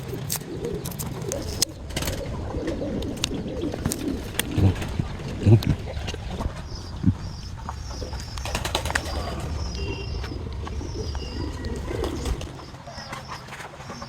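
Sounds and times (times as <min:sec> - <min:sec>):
pigeons cooing: 0:00.0 - 0:14.0
low rumble: 0:00.1 - 0:13.2.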